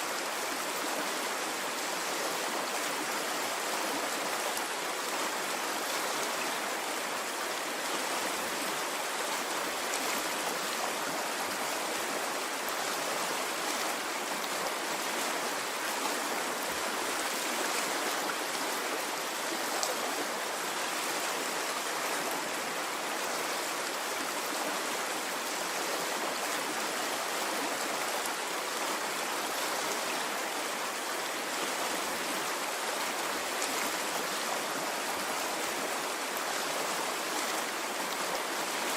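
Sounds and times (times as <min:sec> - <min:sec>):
stream of running water: 0:00.0 - 0:38.9.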